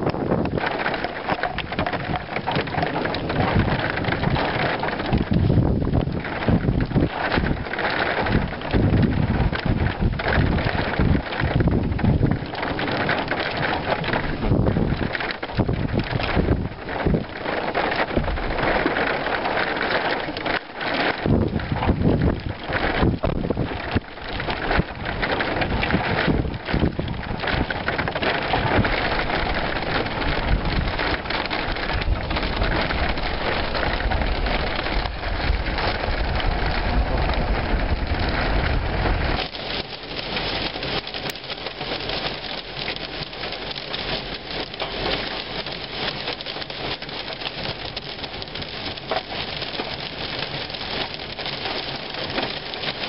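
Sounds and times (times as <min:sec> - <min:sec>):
heavy rain drumming on car roof: 0:00.0 - 0:53.0
wind rumbling on microphone: 0:00.0 - 0:53.0.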